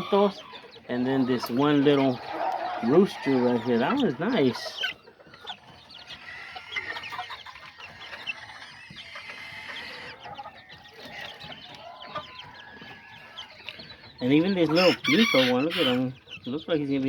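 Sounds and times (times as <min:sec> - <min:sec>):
chickens clucking and chirping: 0:00.0 - 0:17.0.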